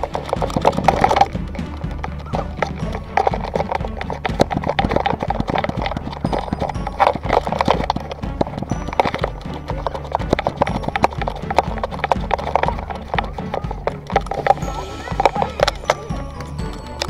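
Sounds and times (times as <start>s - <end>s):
camera knocking and rattling: 0.0s - 14.6s
background music with low notes: 0.0s - 17.0s.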